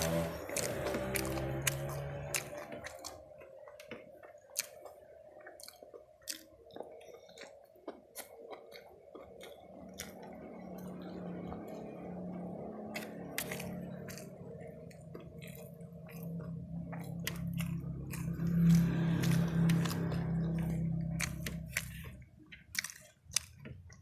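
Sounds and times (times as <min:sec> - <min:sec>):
low hum: 0:00.0 - 0:22.6
close-up chewing: 0:00.0 - 0:24.0.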